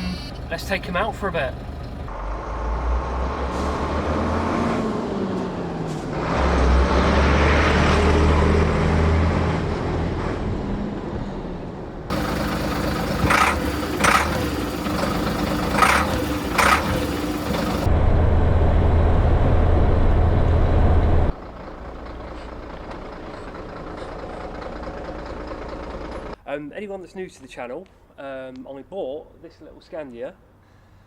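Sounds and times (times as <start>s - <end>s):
diesel lorry engine driving: 0.0s - 10.6s, 12.0s - 26.4s.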